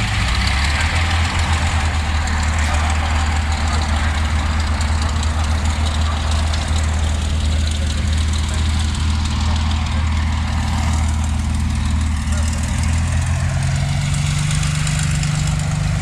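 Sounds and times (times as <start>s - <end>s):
heavy engine running: 0.0s - 16.0s.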